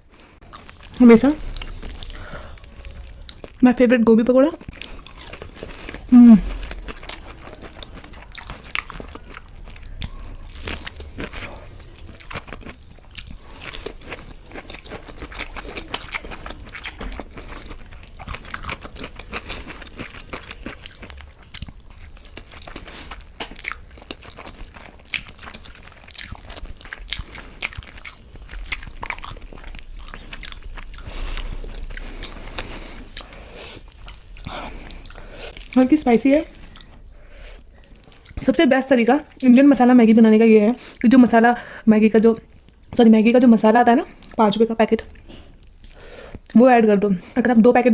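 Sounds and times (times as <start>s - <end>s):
person chewing crunchy food: 0.0s - 3.7s, 4.4s - 38.4s, 45.1s - 46.6s.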